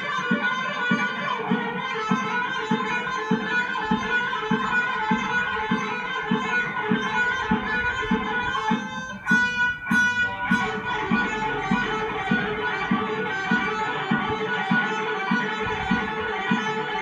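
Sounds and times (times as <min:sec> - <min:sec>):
electric guitar fast picking: 0:00.0 - 0:17.0
steady low beat: 0:02.2 - 0:17.0.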